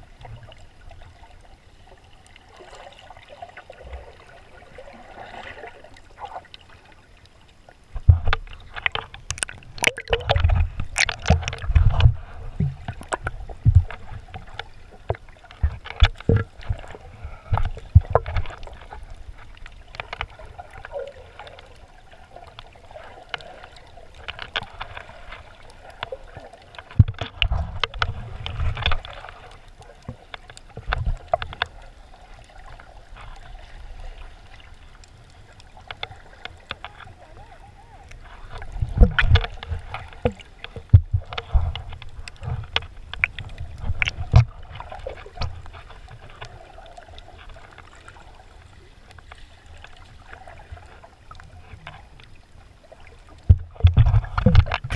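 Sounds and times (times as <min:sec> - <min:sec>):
sea water sloshing: 0:00.0 - 0:54.9.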